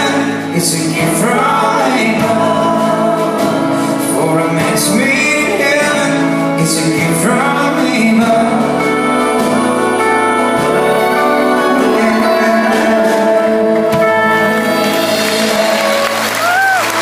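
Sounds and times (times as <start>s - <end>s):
country band instrumental: 0.0s - 17.0s.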